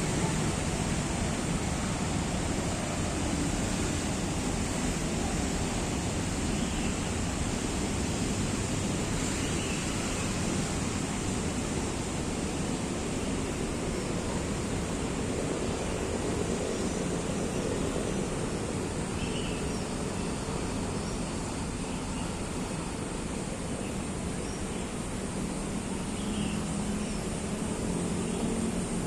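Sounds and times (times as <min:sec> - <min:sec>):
rushing outdoor ambient noise: 0:00.0 - 0:29.0.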